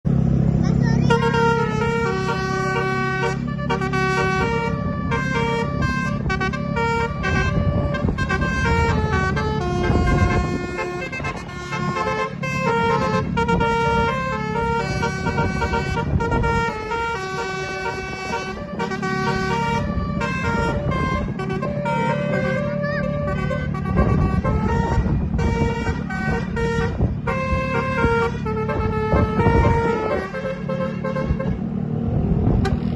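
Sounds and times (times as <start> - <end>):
bus musical horn playing a tune: 0.7 - 31.8, 32.6 - 32.9.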